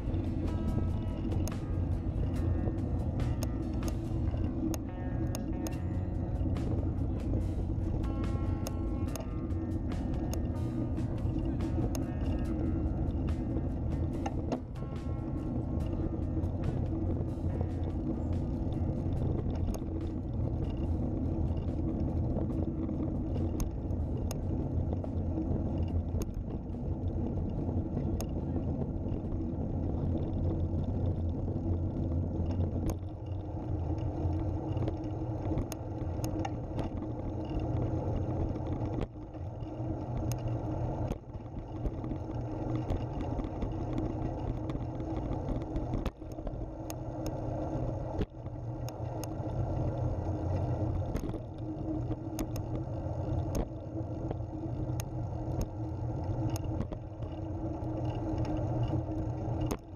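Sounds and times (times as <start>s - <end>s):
road and wind rumble: 0.0s - 59.9s
sharp ticks: 0.0s - 59.9s.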